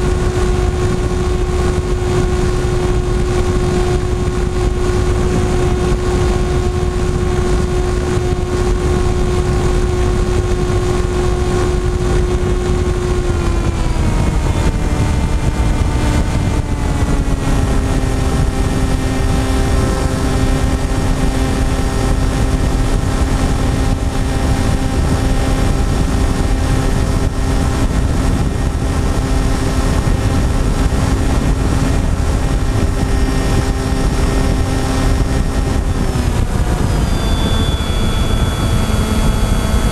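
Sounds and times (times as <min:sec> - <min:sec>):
model aircraft motor whine: 0:00.0 - 0:39.9
wind rushing over microphone: 0:00.0 - 0:39.9.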